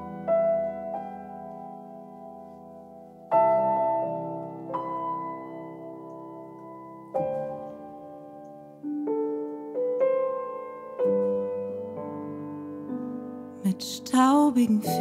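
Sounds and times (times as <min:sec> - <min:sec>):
piano playing soft chords: 0:00.0 - 0:15.0.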